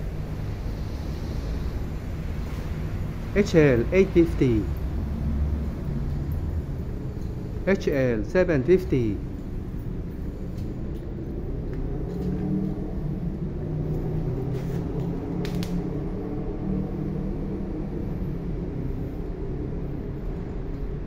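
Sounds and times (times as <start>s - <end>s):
low mechanical rumble with hum: 0.0s - 21.0s.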